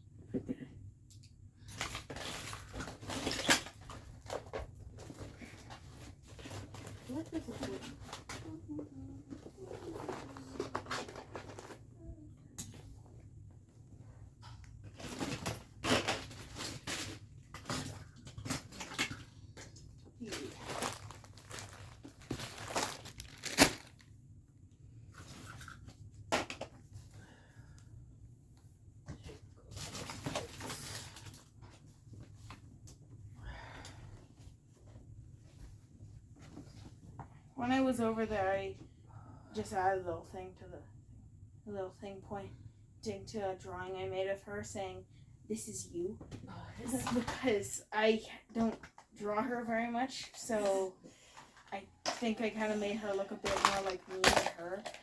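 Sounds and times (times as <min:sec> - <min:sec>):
household clutter rustling and clattering: 0:00.0 - 0:39.0, 0:46.2 - 0:55.0.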